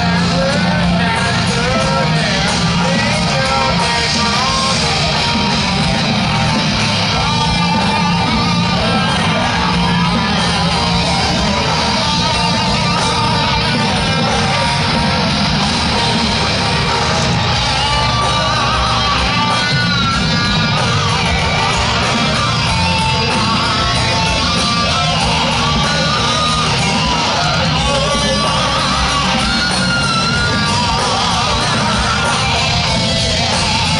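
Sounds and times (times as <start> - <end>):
distorted electric guitar lead: 0.0 - 33.9
live heavy metal band: 0.0 - 33.9.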